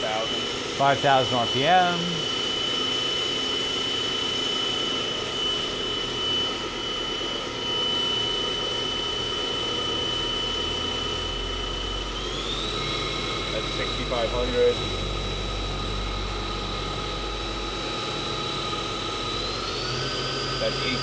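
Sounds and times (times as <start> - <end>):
air compressor running: 0.0 - 21.0
machine spindle whining: 0.0 - 21.0.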